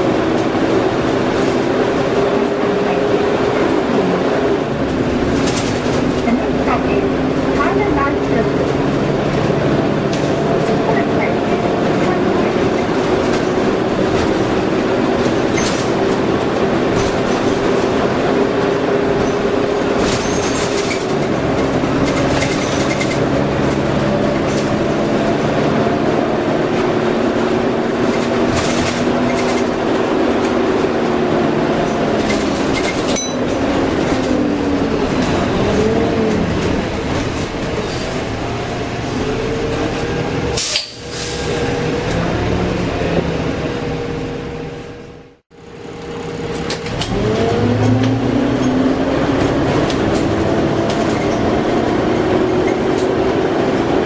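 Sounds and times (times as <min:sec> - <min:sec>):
diesel bus engine running: 0:00.0 - 0:54.0.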